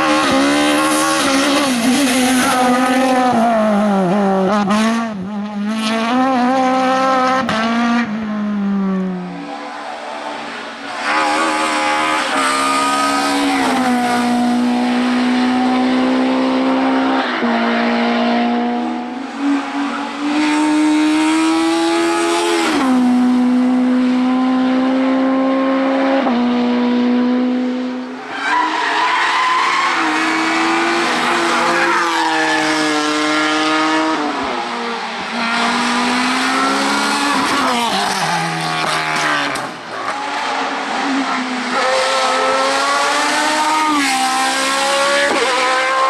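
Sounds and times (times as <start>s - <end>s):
race car engine revving: 0.0s - 28.3s, 29.5s - 46.0s.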